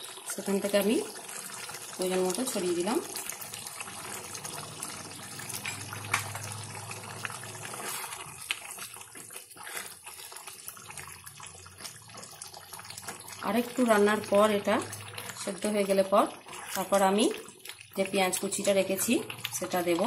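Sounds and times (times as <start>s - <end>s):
curry bubbling in a pan: 0.0s - 20.0s.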